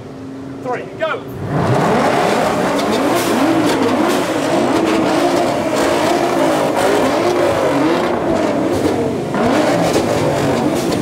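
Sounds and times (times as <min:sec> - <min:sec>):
car engine revving in blips: 0:01.3 - 0:11.0.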